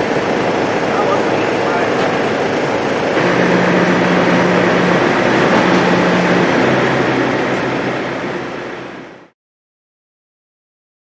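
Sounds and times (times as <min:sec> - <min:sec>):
rushing machine noise with low hum: 0:00.0 - 0:09.3.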